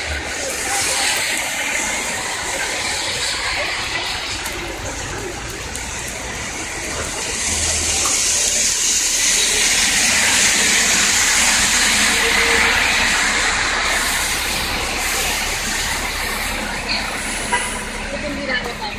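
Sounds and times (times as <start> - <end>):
heavy rain: 0.0 - 18.9
tyres hissing on wet street: 0.0 - 18.9.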